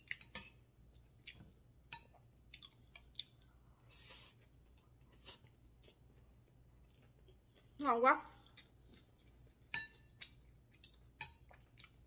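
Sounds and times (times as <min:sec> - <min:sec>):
person chewing food: 0:00.0 - 0:07.8, 0:08.4 - 0:12.0.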